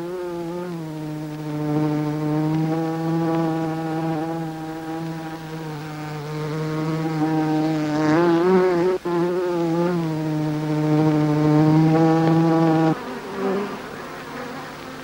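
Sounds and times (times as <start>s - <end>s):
honeybee buzzing: 0.0s - 15.0s.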